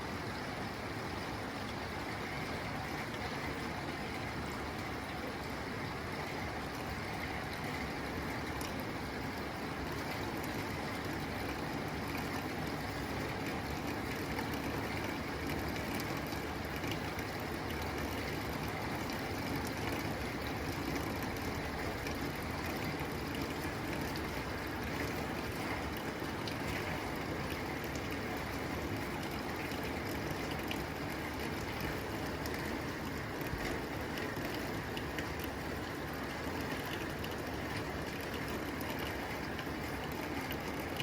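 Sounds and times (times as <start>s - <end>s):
rain on a tin roof: 0.0s - 41.0s.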